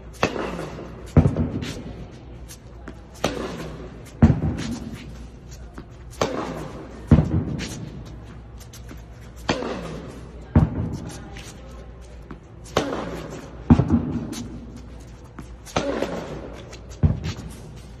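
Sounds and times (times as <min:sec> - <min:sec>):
rackets hitting tennis balls: 0:00.0 - 0:18.0
tennis balls bouncing on court: 0:00.0 - 0:18.0.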